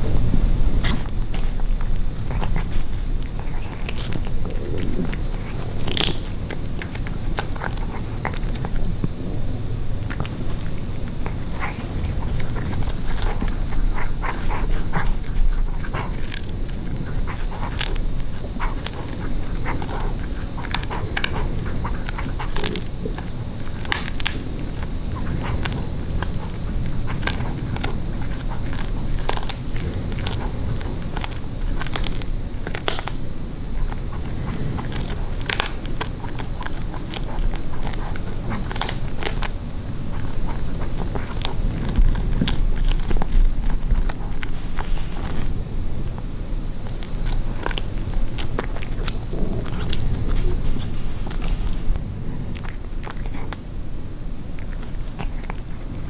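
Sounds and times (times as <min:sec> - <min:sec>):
cat chewing meat and bone: 0:00.0 - 0:56.0.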